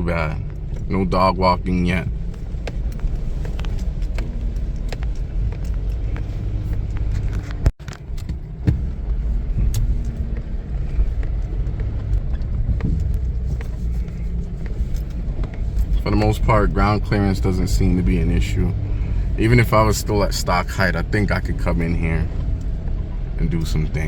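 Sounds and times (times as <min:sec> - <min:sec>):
engine and tyre rumble: 0:00.0 - 0:24.0
suspension knocks and rattles: 0:00.0 - 0:24.0.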